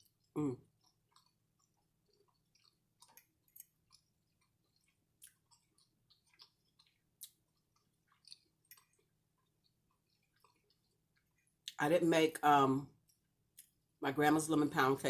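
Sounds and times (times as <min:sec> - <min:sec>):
person chewing food: 0:00.0 - 0:11.8, 0:12.9 - 0:14.0.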